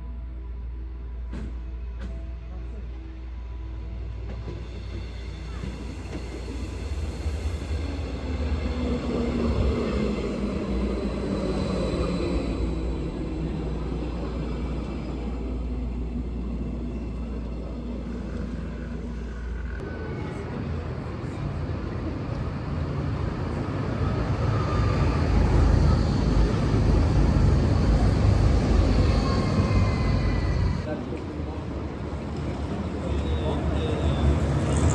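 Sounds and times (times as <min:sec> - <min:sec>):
train rumble: 0:00.0 - 0:34.9.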